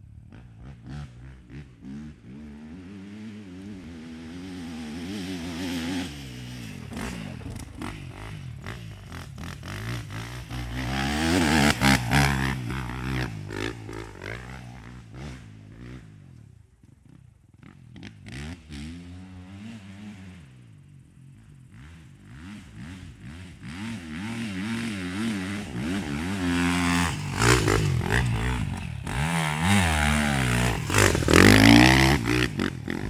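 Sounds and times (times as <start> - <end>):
motocross bike engine revving: 0.4 - 16.3, 17.6 - 33.0.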